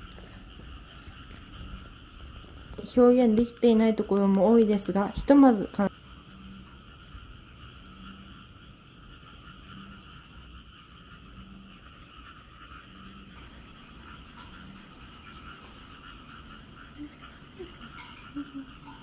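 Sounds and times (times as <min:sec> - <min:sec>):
frogs calling in chorus: 0:00.0 - 0:19.0
low frog croak: 0:00.0 - 0:19.0.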